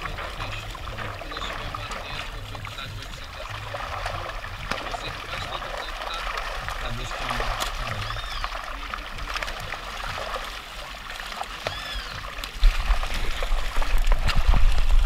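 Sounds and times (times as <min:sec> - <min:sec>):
fish thrashing in water: 0:00.0 - 0:15.0.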